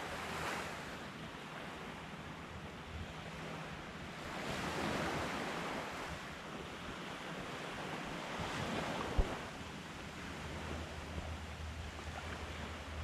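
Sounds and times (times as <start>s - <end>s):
surf washing on beach: 0.0s - 2.5s, 3.1s - 13.0s
wind rumbling on microphone: 0.0s - 13.0s.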